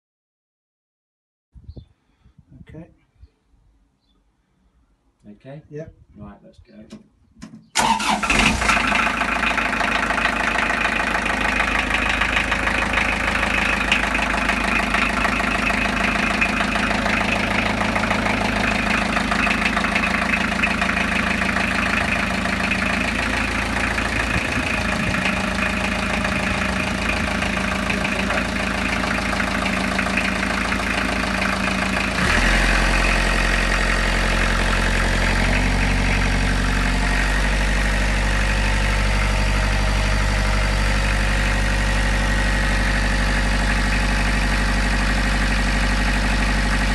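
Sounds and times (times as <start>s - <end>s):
diesel engine idling: 7.8s - 46.9s.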